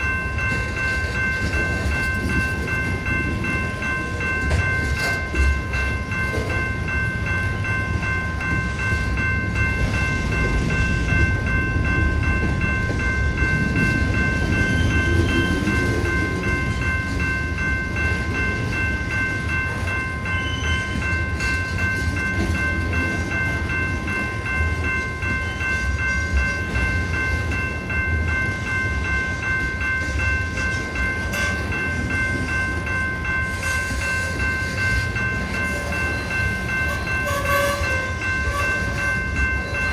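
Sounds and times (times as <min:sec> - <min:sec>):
crossing warning bell ringing: 0:00.0 - 0:39.9
train rumbling past: 0:00.0 - 0:39.9.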